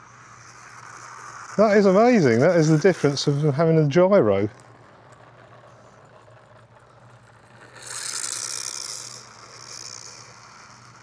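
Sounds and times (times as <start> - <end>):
rc car rattling hiss on asphalt: 0.0 - 11.0.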